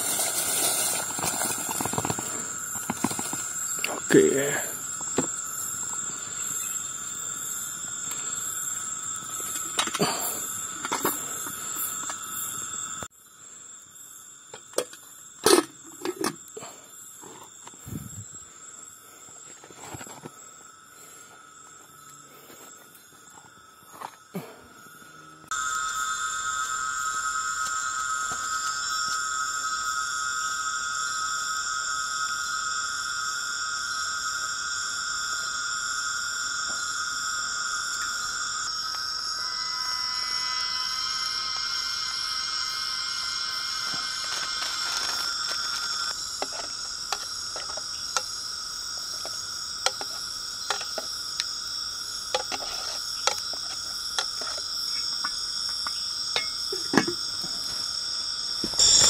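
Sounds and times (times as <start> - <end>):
night insects chirring: 0.0 - 59.0.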